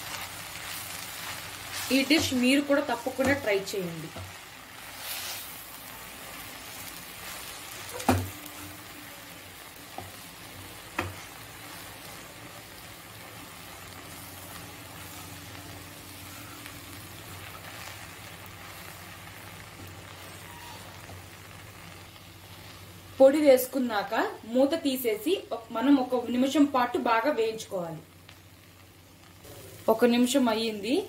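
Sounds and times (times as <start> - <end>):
food sizzling in a pan: 0.0 - 31.0.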